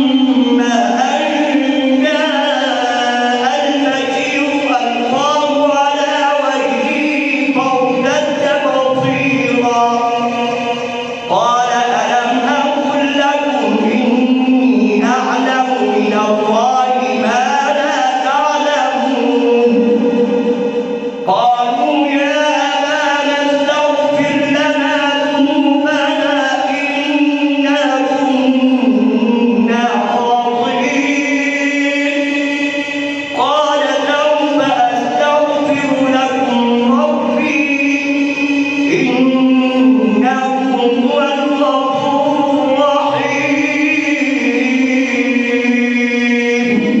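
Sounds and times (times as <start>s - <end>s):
man chanting melodically: 0.0s - 47.0s.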